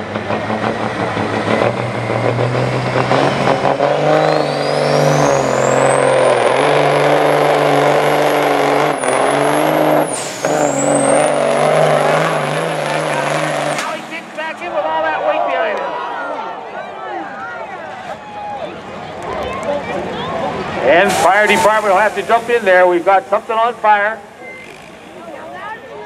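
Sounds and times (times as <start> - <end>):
diesel truck engine at full throttle: 0.0 - 16.5, 18.7 - 26.0.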